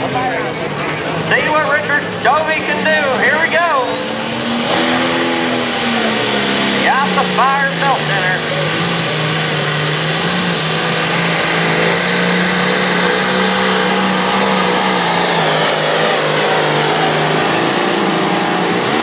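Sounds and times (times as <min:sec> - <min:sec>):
diesel tractor engine at high revs: 0:00.0 - 0:19.0.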